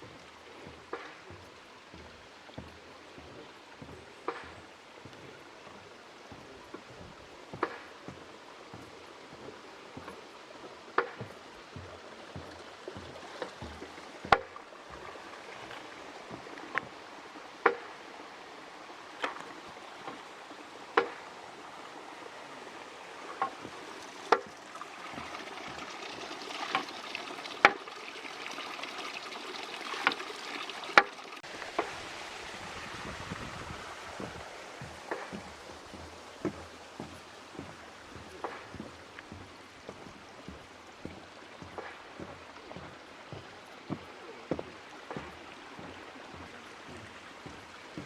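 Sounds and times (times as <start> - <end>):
stream trickling: 0.0 - 48.0.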